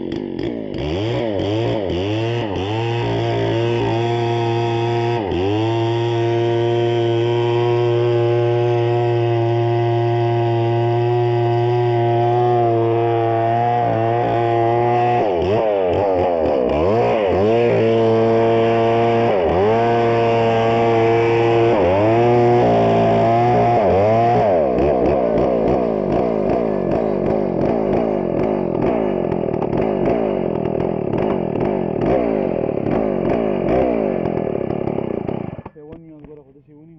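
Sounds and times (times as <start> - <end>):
chainsaw cutting wood: 0.0 - 36.4.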